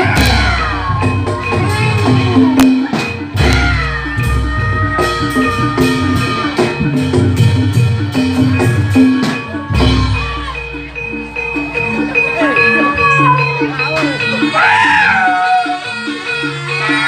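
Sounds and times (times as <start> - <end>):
drum strikes: 0.0 - 14.5
metallophone melody: 0.0 - 17.0.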